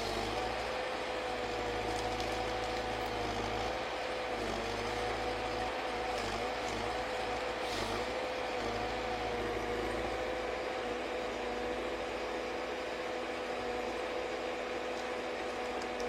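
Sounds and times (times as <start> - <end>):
harvester engine drone: 0.0 - 16.0.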